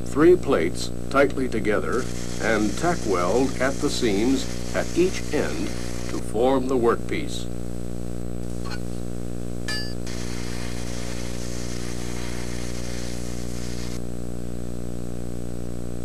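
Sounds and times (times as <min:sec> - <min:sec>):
welding arc crackling and hissing: 0:00.0 - 0:14.1
low electrical hum: 0:00.0 - 0:16.0.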